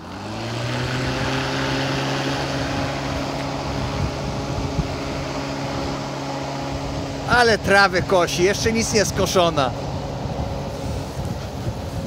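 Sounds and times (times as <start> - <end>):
lawn mower motor humming: 0.0 - 12.0.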